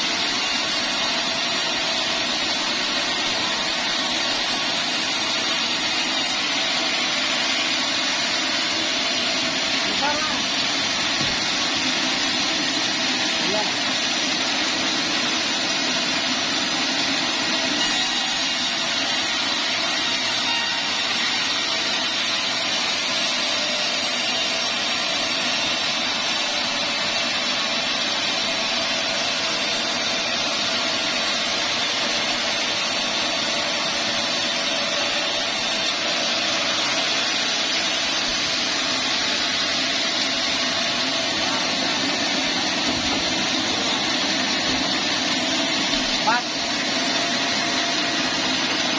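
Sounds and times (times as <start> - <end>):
band saw cutting wood: 0.0 - 48.9.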